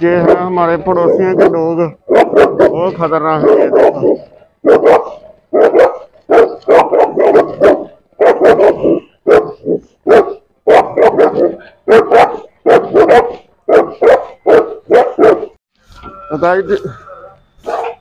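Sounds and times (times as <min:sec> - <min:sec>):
large dogs barking: 0:00.0 - 0:15.6, 0:17.6 - 0:18.0.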